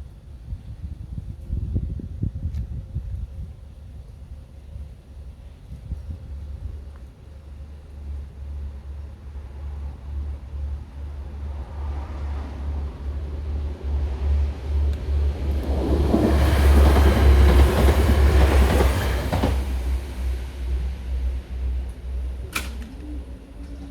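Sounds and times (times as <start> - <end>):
diesel train passing: 3.4 - 23.9.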